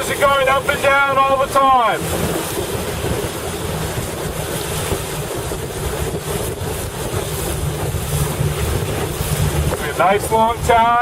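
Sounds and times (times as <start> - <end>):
rushing splashing water: 0.0 - 11.0
wind buffeting microphone: 0.0 - 11.0.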